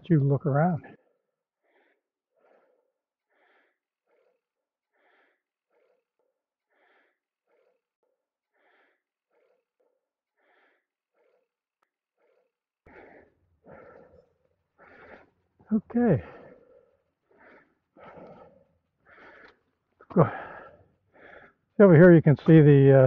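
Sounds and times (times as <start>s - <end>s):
faint rhythmic breathing: 0.0s - 22.7s.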